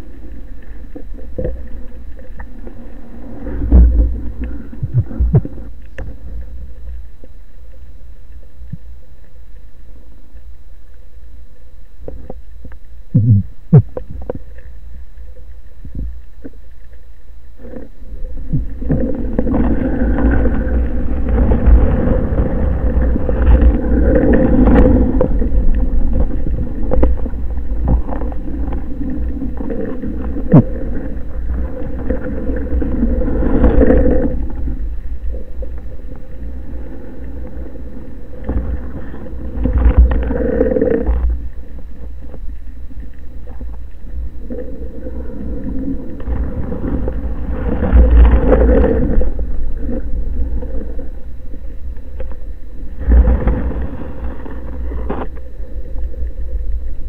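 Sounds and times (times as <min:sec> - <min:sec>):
underwater water rush: 0:00.0 - 0:10.0, 0:12.1 - 0:57.0.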